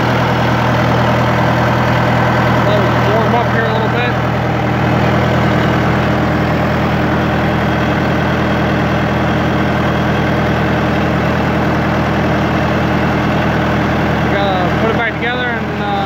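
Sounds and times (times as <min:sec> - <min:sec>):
crawler loader engine idling: 0:00.0 - 0:16.0.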